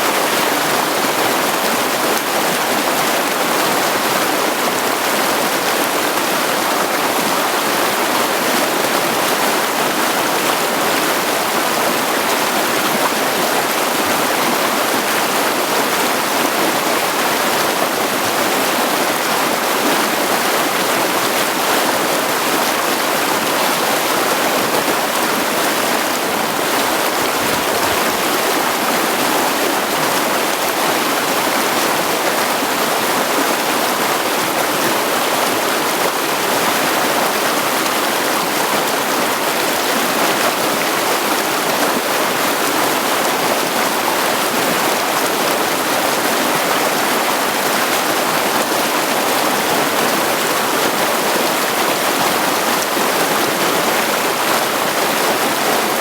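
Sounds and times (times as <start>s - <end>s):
creek rushing over rocks: 0.0s - 56.0s.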